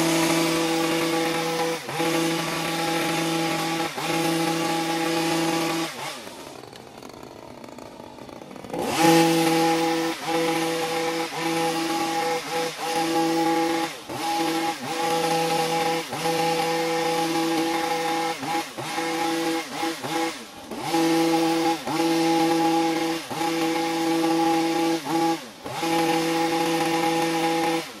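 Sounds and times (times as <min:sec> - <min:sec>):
power tool motor whining: 0:00.0 - 0:28.0.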